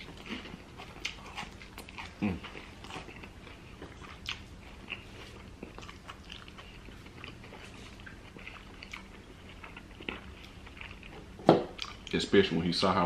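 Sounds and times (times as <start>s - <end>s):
people chewing food: 0.0s - 12.2s.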